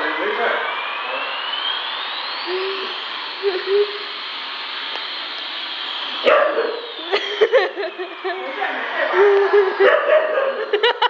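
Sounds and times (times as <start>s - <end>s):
toy jet engine sound effect: 0.0s - 11.0s.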